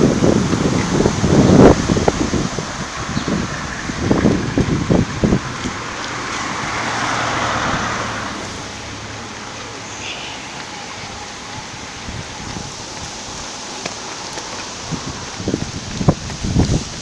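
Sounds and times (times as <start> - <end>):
wind buffeting microphone: 0.0 - 17.0
wind rushing through trees: 0.0 - 17.0.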